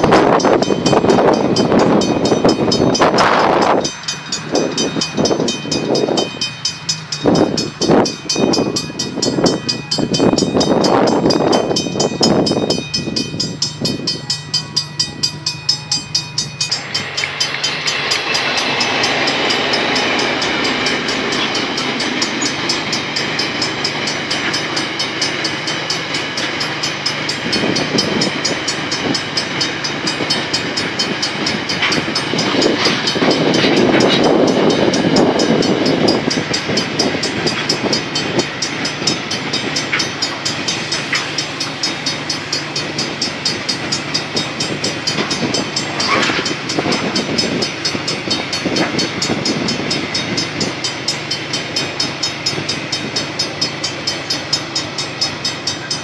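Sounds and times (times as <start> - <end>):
level crossing bells ringing: 0.0 - 56.0
train wagons rolling: 0.0 - 56.0.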